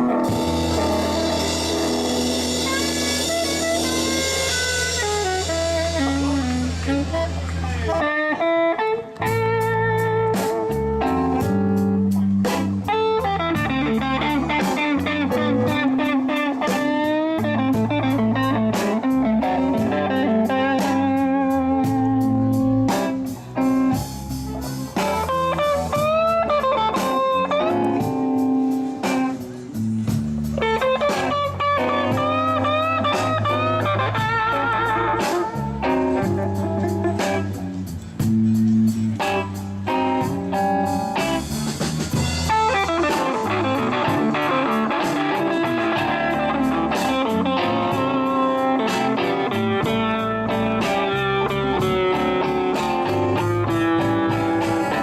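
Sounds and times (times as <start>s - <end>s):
bass guitar: 0.0s - 55.0s
drum kit: 0.0s - 55.0s
electric guitar lead: 0.0s - 55.0s.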